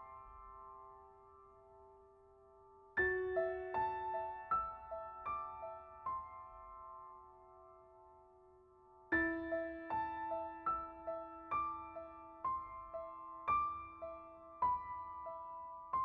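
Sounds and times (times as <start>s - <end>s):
slow soft piano music: 0.0s - 16.0s.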